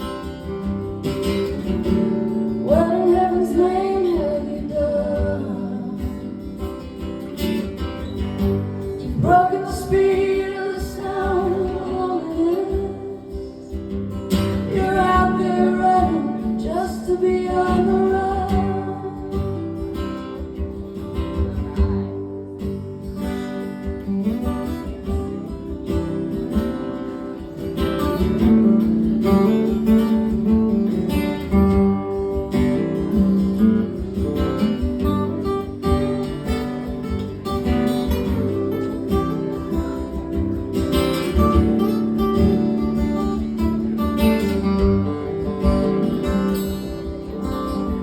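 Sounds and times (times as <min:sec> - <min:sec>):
acoustic guitar strumming and picking: 0:00.0 - 0:48.0.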